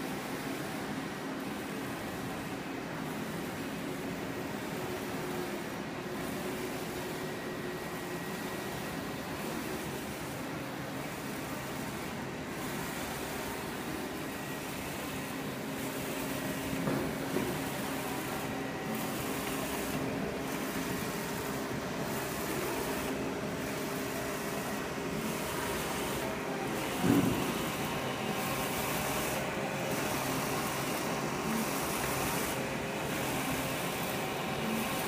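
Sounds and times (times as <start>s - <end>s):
printer whirring and humming: 0.0s - 35.0s.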